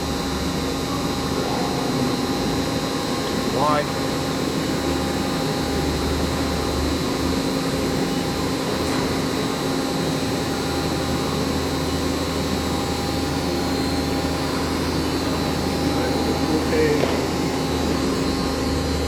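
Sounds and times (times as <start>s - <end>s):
machine steady hum: 0.0s - 19.0s.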